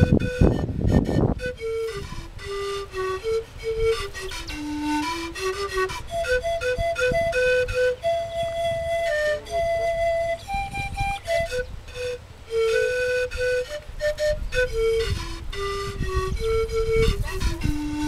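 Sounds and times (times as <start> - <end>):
panpipes melody: 0.0 - 18.0.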